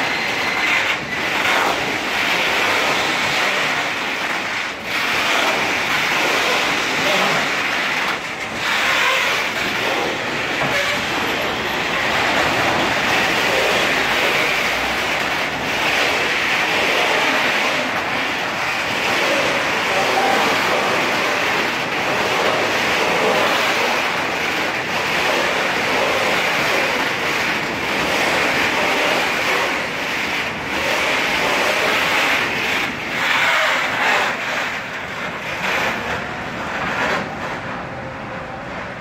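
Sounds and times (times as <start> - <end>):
wheels knocking on rail joints: 0.0 - 37.6
steel wheels rushing on rail: 0.0 - 39.0.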